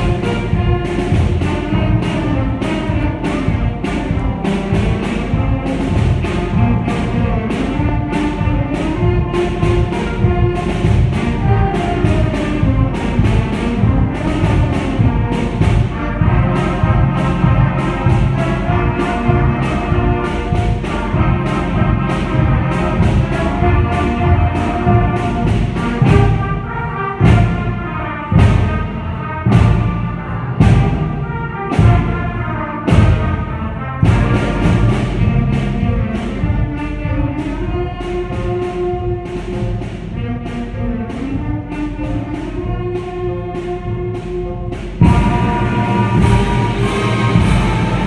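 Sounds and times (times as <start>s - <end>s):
loud percussion hits: 0.0s - 41.5s, 43.8s - 48.0s
concert band playing a march: 0.0s - 48.0s.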